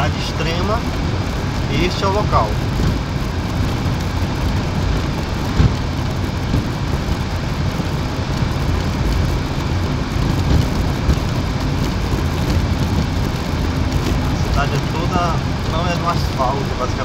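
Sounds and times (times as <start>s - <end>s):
car engine hum: 0.0s - 17.0s
tyres rumbling on cobblestones: 0.0s - 17.0s.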